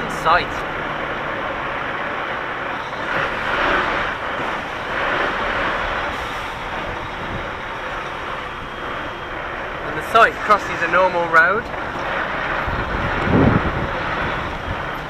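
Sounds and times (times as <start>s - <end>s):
lorry engine and road noise: 0.0s - 15.0s.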